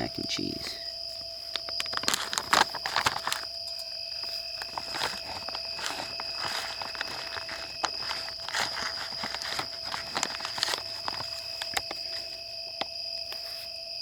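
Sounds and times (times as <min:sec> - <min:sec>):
packet rustling and clicks: 0:01.2 - 0:13.5.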